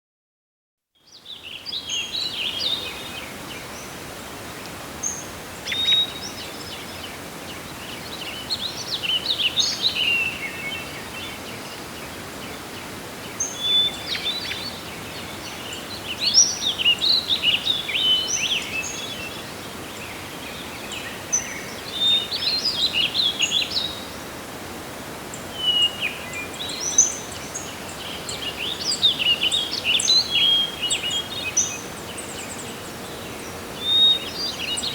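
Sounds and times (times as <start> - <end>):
songbirds singing and chirping: 1.0 - 34.9.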